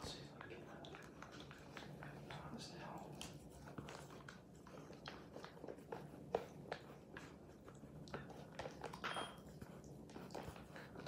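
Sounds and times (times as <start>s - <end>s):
puppy chewing paper: 0.0s - 11.0s.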